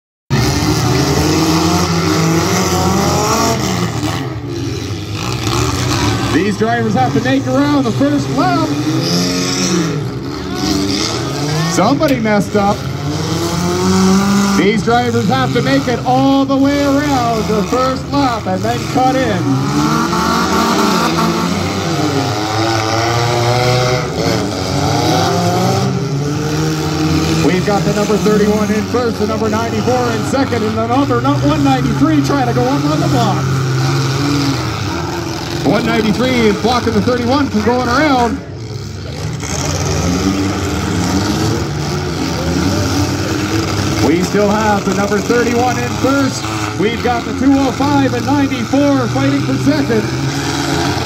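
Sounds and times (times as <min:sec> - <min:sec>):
race car engines revving: 0:00.3 - 0:51.0.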